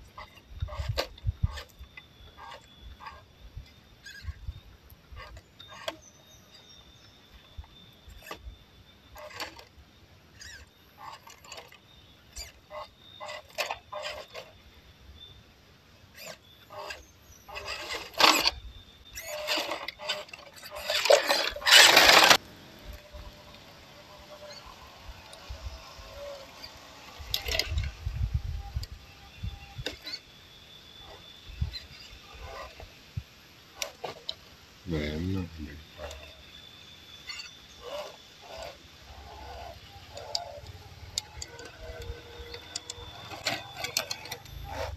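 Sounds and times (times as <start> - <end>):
rc car clicks and crackles: 0.0 - 14.7, 16.1 - 44.9
electric motor and gearbox whirring: 0.0 - 44.9.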